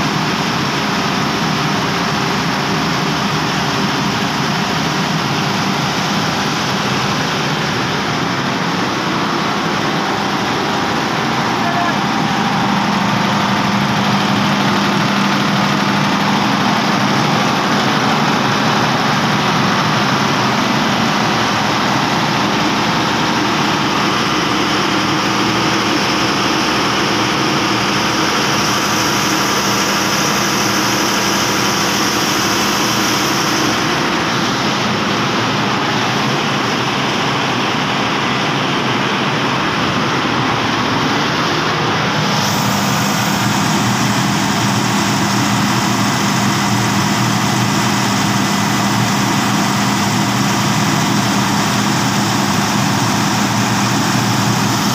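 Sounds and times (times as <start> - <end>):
diesel generator running: 0.0 - 54.9.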